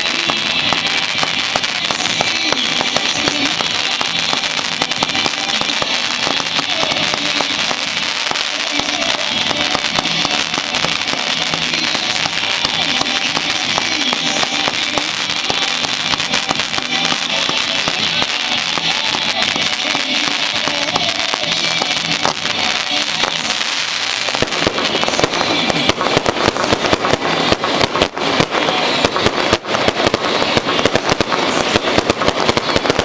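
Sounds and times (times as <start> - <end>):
fireworks popping and crackling: 0.0 - 33.0
music playing: 0.0 - 33.0.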